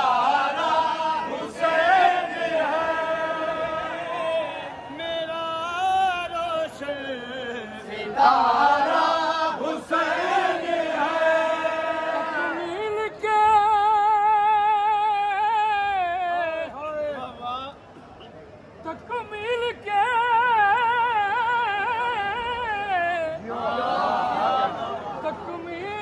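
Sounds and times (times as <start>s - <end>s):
voices singing along: 0.0s - 17.8s, 18.8s - 26.0s.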